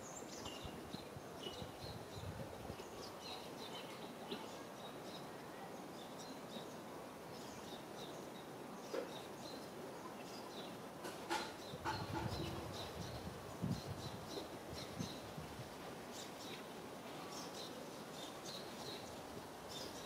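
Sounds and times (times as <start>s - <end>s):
outdoor background hiss: 0.0s - 20.0s
small birds chirping: 0.0s - 20.0s.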